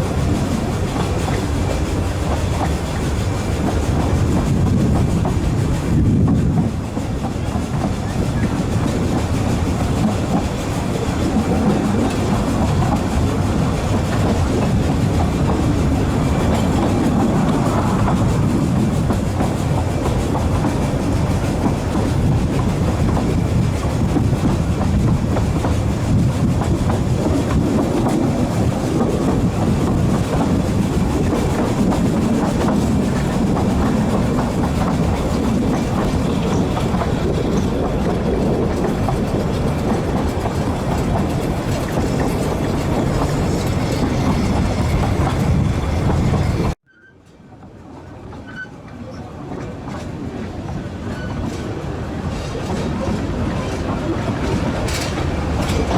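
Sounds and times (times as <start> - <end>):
train wheels running on rail: 0.0 - 55.9.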